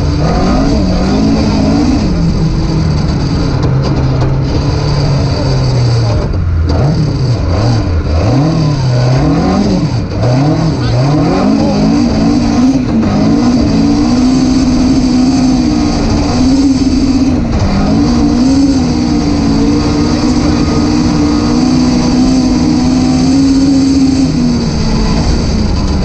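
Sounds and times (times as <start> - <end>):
rally car engine at high revs: 0.0 - 26.0.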